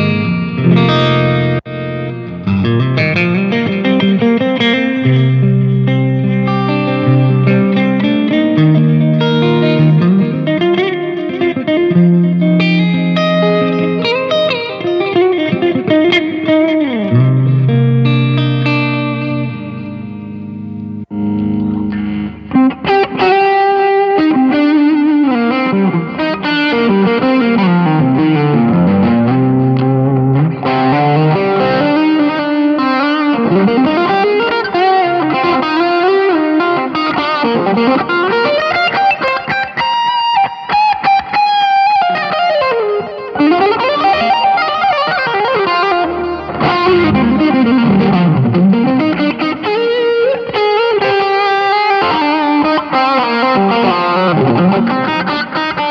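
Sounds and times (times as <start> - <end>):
electric guitar lead line: 0.0 - 55.9.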